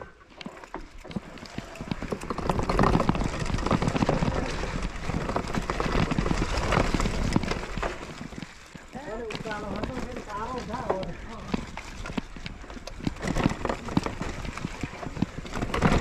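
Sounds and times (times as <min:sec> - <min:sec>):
mountain bike rattling: 0:00.0 - 0:16.0.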